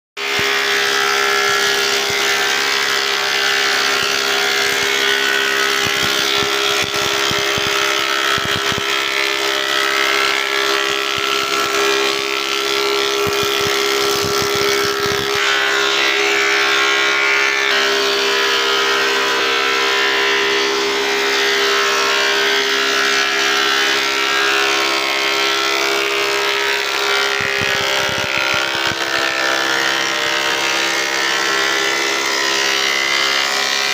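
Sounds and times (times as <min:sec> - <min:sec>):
woodworking planer running: 0:00.2 - 0:33.9.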